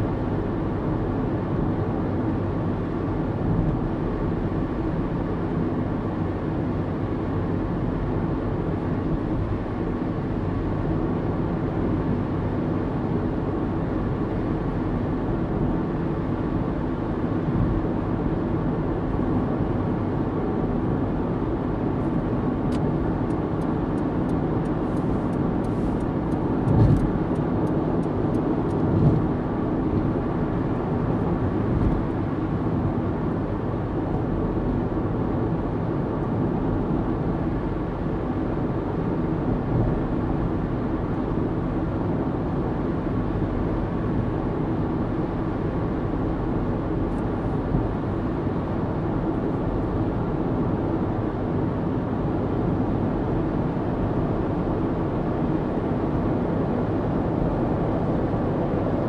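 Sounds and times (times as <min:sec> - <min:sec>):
car engine hum: 0:00.0 - 0:59.0.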